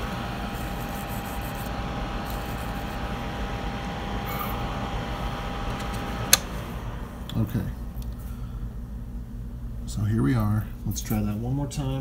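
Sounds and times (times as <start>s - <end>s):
faint steady whine: 0.0s - 12.0s
fan whirring: 0.0s - 12.0s.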